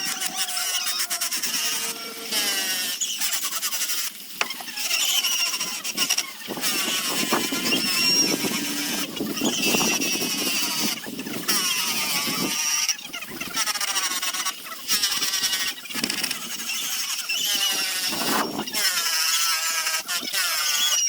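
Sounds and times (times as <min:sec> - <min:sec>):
woodworking tool squealing on wood: 0:00.0 - 0:21.0.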